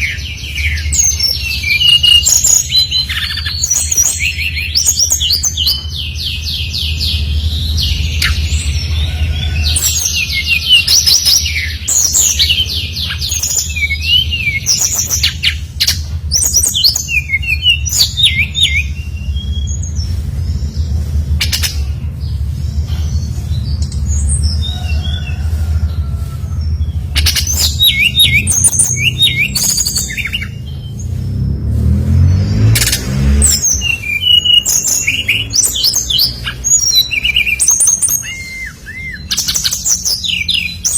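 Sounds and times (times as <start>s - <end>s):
bird singing trilled notes: 0.0s - 25.4s, 26.6s - 31.5s, 32.1s - 40.9s
steady low hum: 0.0s - 34.2s.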